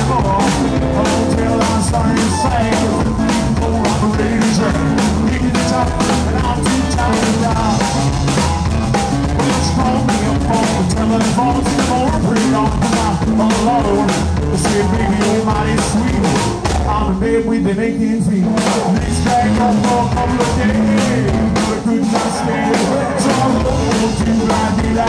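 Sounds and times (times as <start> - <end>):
drum kit steady beat: 0.0 - 25.0
electric guitar melody: 0.0 - 25.0
upright bass: 0.0 - 25.0.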